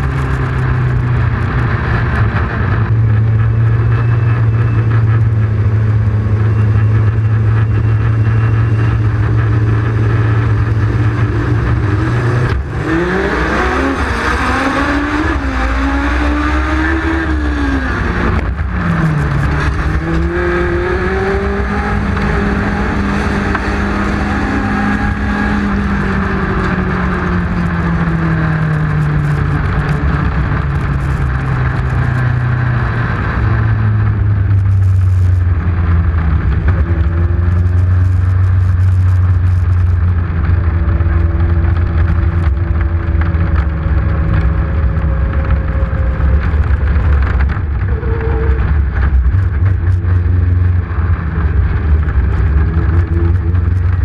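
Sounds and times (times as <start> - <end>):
race car engine: 0.0 - 54.0
wind and road noise: 0.0 - 54.0.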